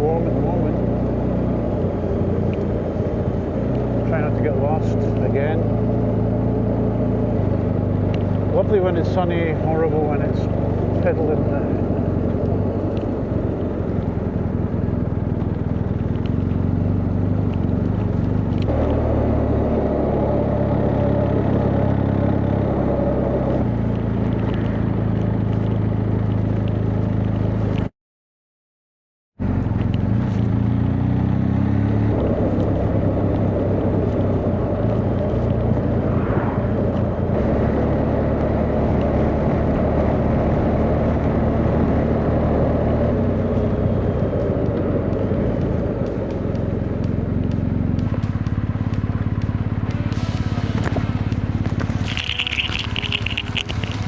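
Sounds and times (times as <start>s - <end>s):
motorcycle engine running: 0.0s - 27.9s, 29.4s - 54.0s
wind and road noise: 0.0s - 27.9s, 29.4s - 54.0s.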